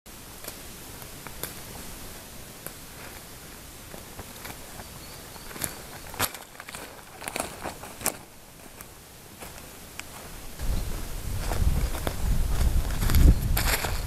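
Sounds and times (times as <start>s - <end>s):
background hiss: 0.1s - 14.0s
leaves and twigs crackling: 0.2s - 14.0s
footsteps on forest floor: 1.0s - 14.0s.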